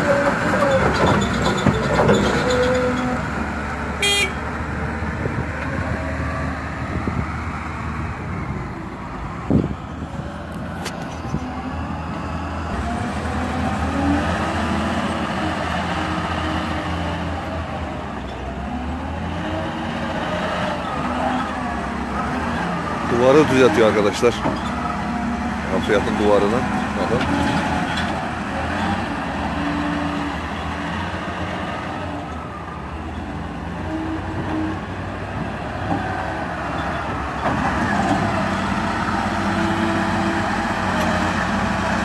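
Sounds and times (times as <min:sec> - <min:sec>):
diesel engine revving under load: 0:00.0 - 0:42.0.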